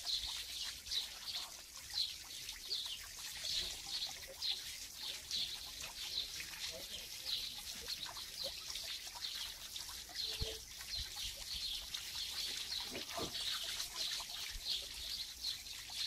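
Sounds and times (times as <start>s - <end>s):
small birds chirping: 0.0s - 16.0s
water trickling faintly: 0.0s - 16.0s.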